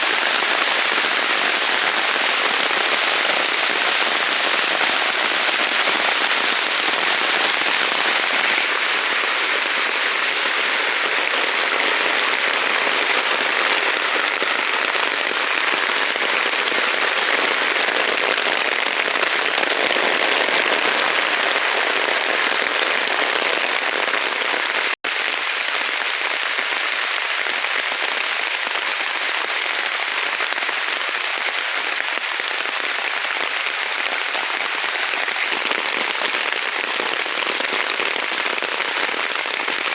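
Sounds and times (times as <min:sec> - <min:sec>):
heavy rain in forest: 0:00.0 - 0:39.9.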